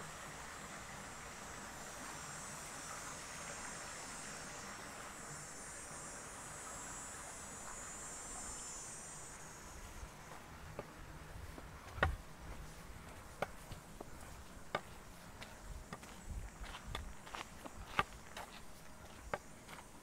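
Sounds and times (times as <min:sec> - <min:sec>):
creek water over weir: 0:00.0 - 0:20.0
insects chorus: 0:00.0 - 0:20.0.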